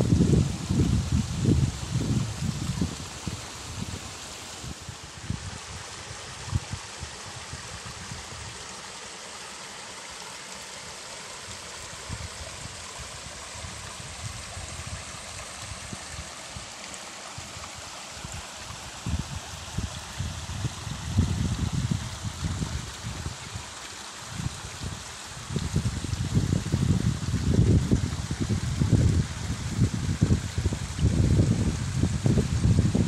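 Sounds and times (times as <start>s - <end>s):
water trickling in a ditch: 0.0s - 33.0s.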